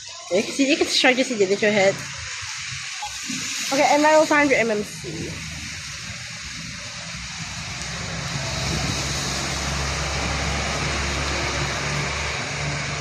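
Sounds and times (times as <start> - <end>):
bus diesel engine running: 0.0 - 13.0
rain and wet road hiss: 0.1 - 13.0.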